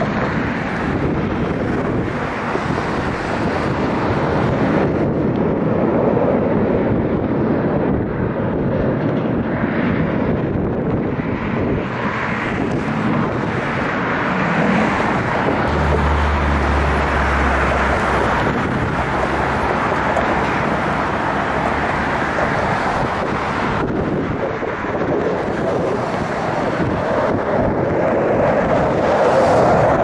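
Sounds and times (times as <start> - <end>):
jet roar: 0.0 - 30.0
wind buffeting microphone: 0.0 - 30.0.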